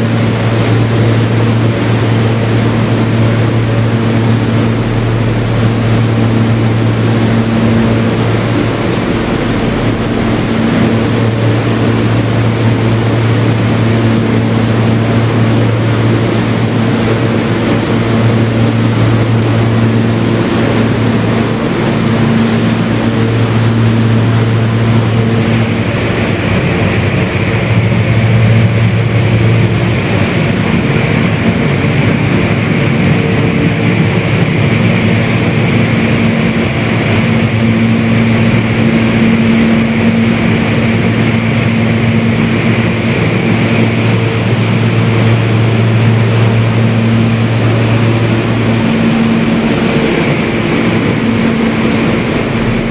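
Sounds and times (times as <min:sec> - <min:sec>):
high motor whine: 0:00.0 - 0:52.9
low motor hum: 0:00.0 - 0:52.9
rumble of train wheels on rail: 0:00.0 - 0:52.9.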